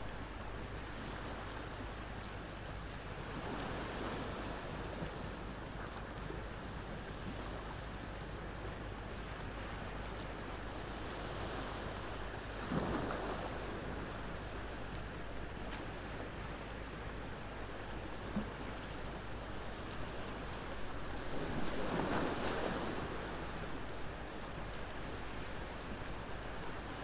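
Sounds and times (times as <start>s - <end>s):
ocean waves washing on shore: 0.0s - 27.0s.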